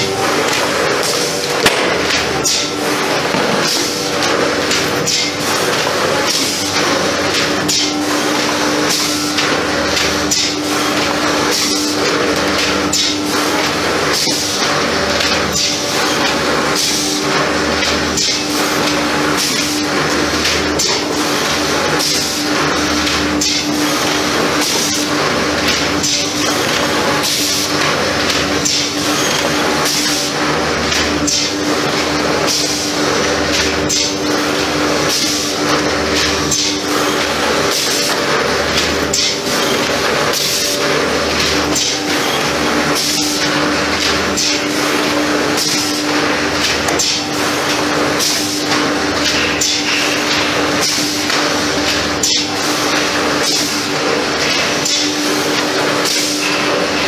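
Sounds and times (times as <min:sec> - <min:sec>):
slotting machine cutting grooves: 0:00.0 - 0:57.0.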